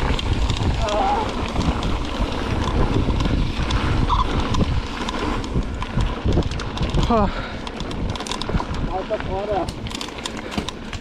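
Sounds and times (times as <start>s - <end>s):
bike rattles and clicks: 0.0s - 11.0s
tyres rolling over loose stones: 0.0s - 11.0s
wind rumbling on microphone: 0.0s - 11.0s.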